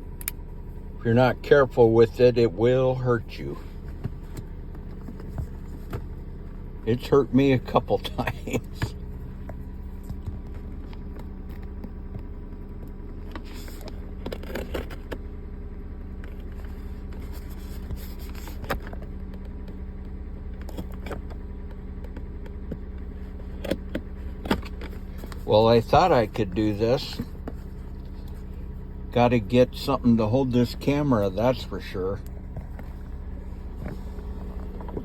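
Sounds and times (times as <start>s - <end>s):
low hum: 0.0s - 35.0s.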